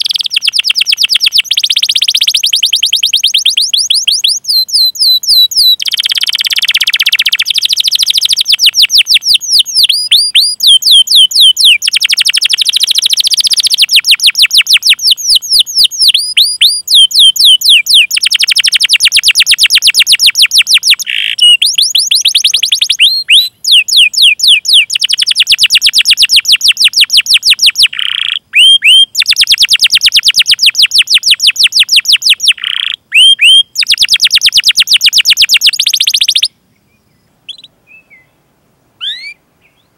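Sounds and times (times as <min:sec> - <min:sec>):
canary singing trills: 0:00.0 - 0:38.4, 0:39.0 - 0:39.9.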